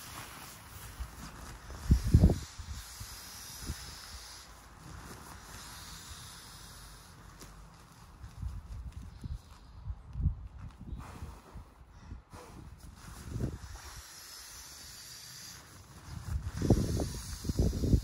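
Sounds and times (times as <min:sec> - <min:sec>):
nylon sack rustling and hissing: 0:00.0 - 0:09.8, 0:10.8 - 0:18.0.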